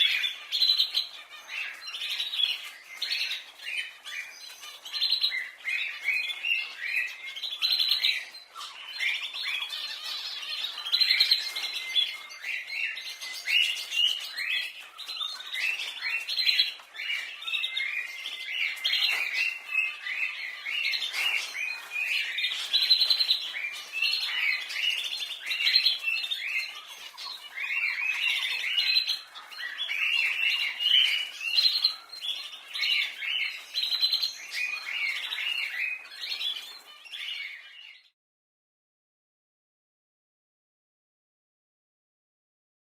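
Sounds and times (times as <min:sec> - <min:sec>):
canaries singing and chirping: 0:00.0 - 0:38.2.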